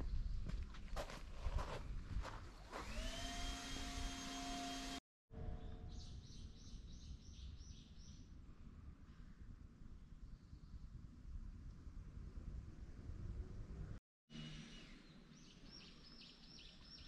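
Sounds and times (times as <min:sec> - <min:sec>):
outdoor ambience: 0:00.0 - 0:17.0.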